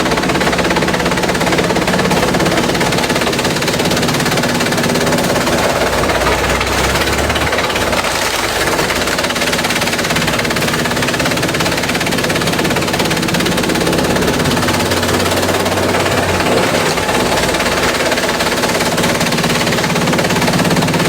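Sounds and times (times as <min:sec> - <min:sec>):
machine hum: 0:00.0 - 0:21.0
shredding machine clattering: 0:00.0 - 0:21.0.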